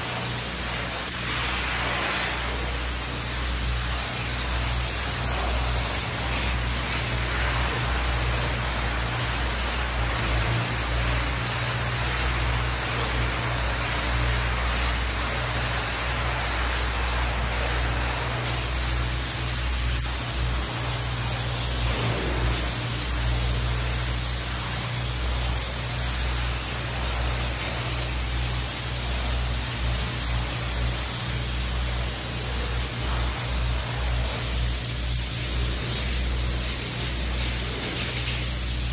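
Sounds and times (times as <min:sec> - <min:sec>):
low steady hum: 0:00.0 - 0:38.9
spray foam gun hissing: 0:00.0 - 0:38.9.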